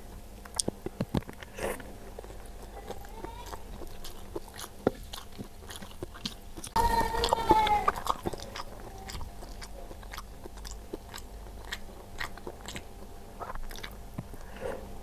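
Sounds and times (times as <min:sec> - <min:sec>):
chewing with wet mouth clicks: 0:00.4 - 0:14.5.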